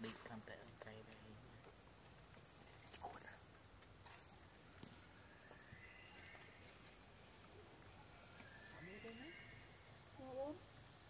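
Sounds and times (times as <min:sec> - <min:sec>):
faint outdoor background: 0:00.0 - 0:11.0
insects droning: 0:00.0 - 0:11.0.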